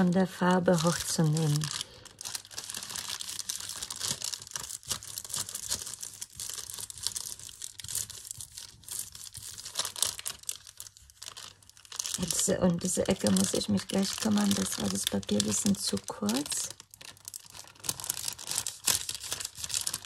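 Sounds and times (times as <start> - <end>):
paper peeling with crackling rustle: 0.0 - 20.0.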